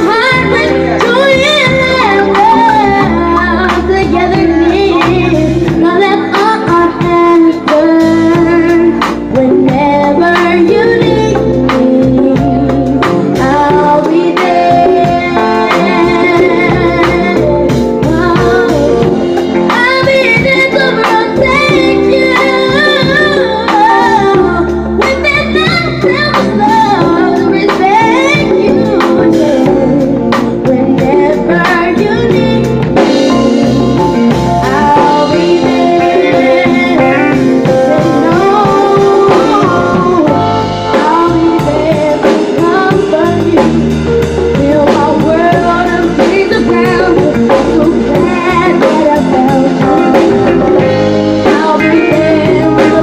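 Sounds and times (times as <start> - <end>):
boy singing into microphone: 0.0 - 53.0
live band playing: 0.0 - 53.0.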